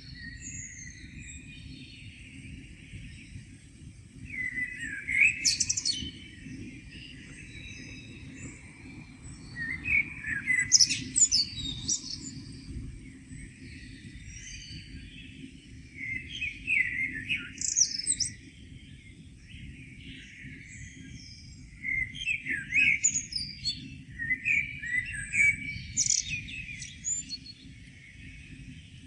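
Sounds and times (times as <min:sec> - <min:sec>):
songbirds singing: 0:00.0 - 0:29.0.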